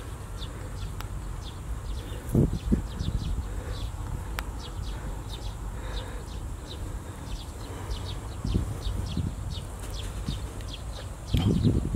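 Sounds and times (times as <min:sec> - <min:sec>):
small birds chirping: 0:00.0 - 0:11.9
steady low rumble: 0:00.0 - 0:11.9.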